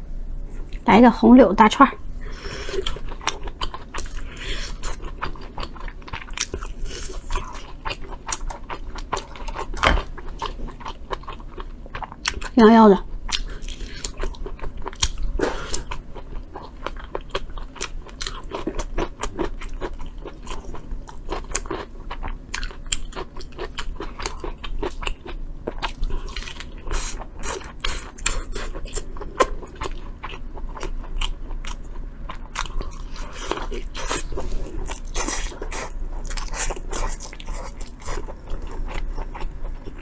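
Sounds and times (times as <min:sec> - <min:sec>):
person chewing and biting: 0:02.0 - 0:12.6, 0:13.2 - 0:40.0.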